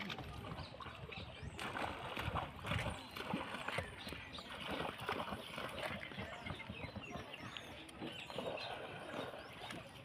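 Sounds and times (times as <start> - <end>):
monkeys splashing in water: 0.0 - 10.0.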